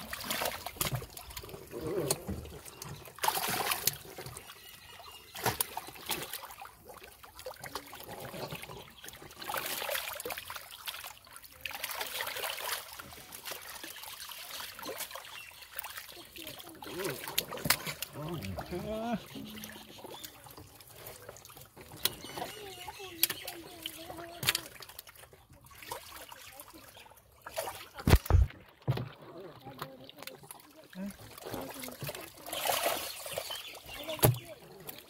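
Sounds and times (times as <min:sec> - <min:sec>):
catfish splashing in shallow water: 0:00.0 - 0:35.0
water trickling: 0:00.0 - 0:35.0.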